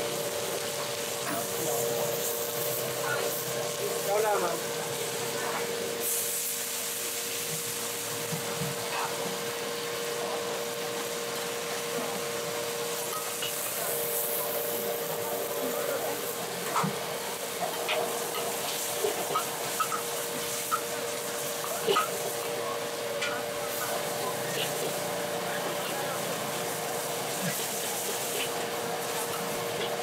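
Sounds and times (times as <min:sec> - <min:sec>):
meat sizzling in a wok: 0:00.0 - 0:30.0.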